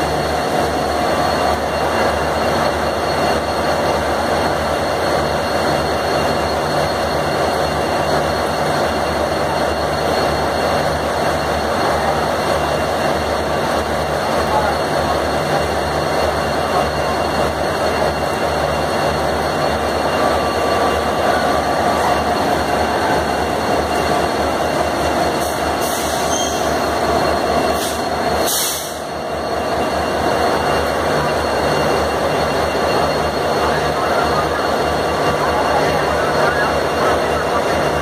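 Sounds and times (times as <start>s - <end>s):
locomotive engine throbbing: 0.0s - 38.0s.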